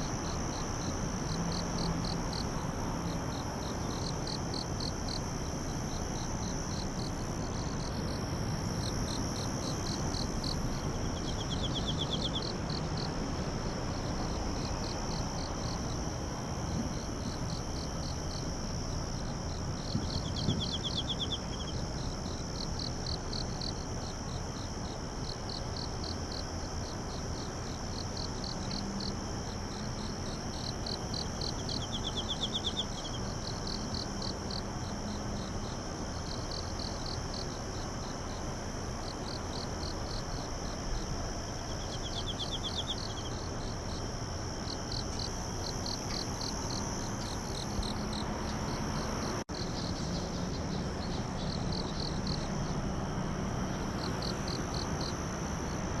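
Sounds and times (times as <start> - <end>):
crickets chirping: 0.0 - 56.0
insect trill: 0.0 - 56.0
insects droning: 0.0 - 56.0.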